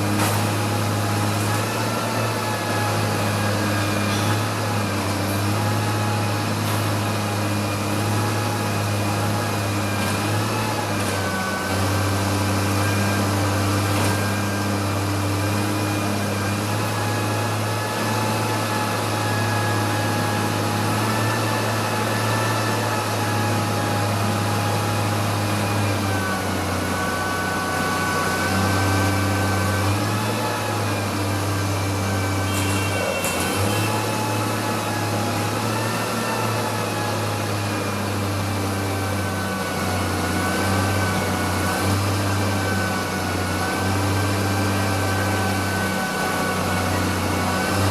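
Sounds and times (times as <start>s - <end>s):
garbage truck engine hum: 0.0s - 47.9s.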